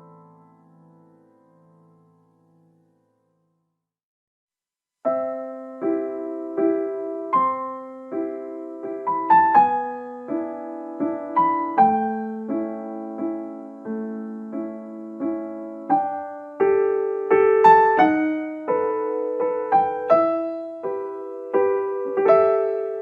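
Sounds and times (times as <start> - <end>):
gentle piano melody: 0.0 - 3.4, 5.0 - 23.0.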